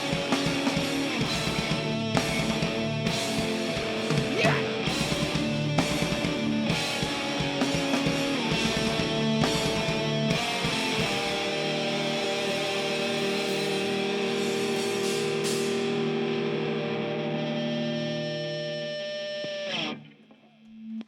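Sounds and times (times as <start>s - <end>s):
distorted electric guitar chord ringing: 0.0s - 20.3s.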